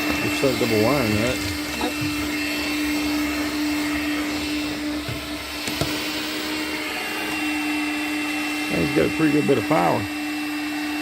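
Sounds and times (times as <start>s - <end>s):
portable vacuum running: 0.0s - 11.0s.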